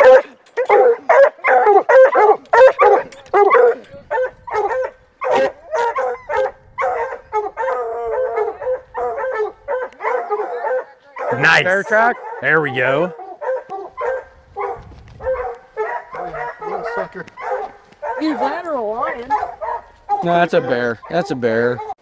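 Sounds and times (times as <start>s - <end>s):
hounds baying and barking: 0.0s - 22.0s.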